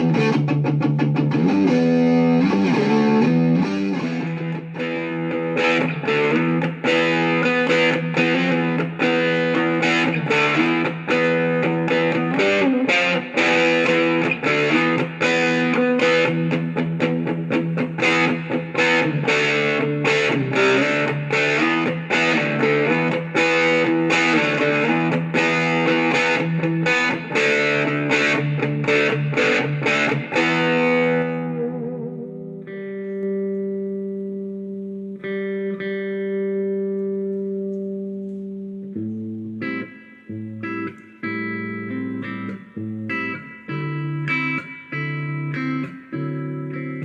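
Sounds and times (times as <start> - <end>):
electric guitar chords and notes: 0.0 - 47.0.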